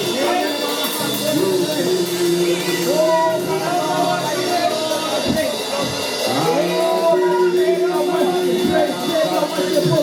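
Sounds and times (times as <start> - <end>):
instrumental accompaniment: 0.0 - 10.0
voices singing worship music: 0.0 - 10.0.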